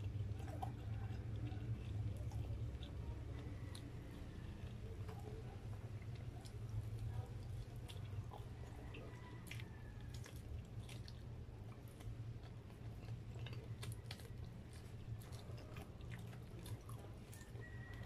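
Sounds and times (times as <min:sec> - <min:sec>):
person chewing meat: 0:00.0 - 0:18.0
steady low hum: 0:00.0 - 0:18.0.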